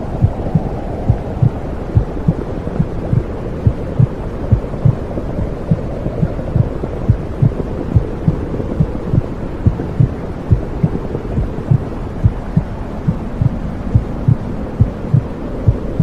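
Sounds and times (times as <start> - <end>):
low rushing noise: 0.0 - 16.0
heartbeat thumping: 0.2 - 16.0.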